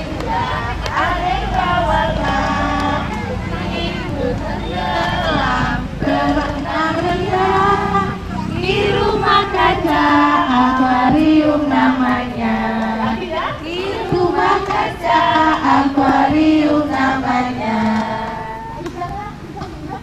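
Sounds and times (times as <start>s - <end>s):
children singing: 0.0s - 18.8s
woman singing: 0.0s - 20.0s.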